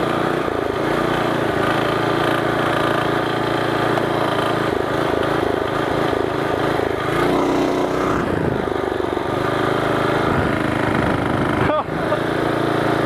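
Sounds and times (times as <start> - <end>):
mini bike engines running: 0.0 - 13.0.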